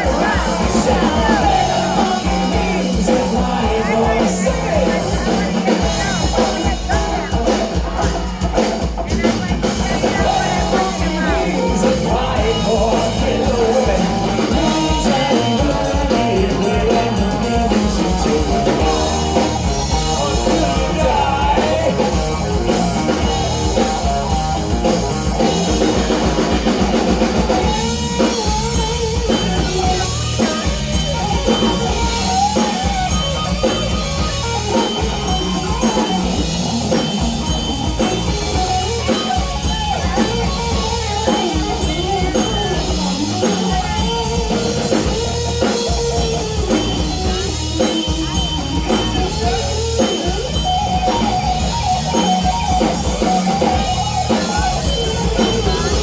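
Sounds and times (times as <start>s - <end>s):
drum kit: 0.0s - 56.0s
guitars: 0.0s - 56.0s
person singing: 0.0s - 56.0s.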